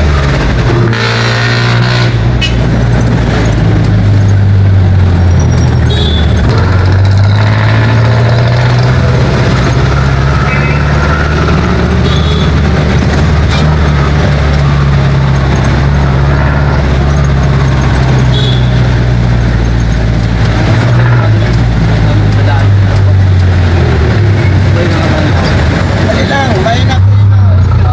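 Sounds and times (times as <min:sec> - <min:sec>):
diesel engine droning: 0:00.0 - 0:27.9
road noise: 0:00.0 - 0:27.9.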